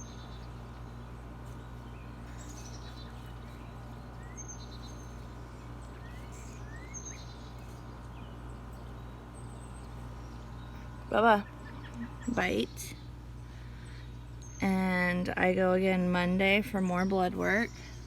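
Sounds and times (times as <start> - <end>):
low outdoor hum: 0.0 - 18.0
small birds chirping: 0.0 - 18.0.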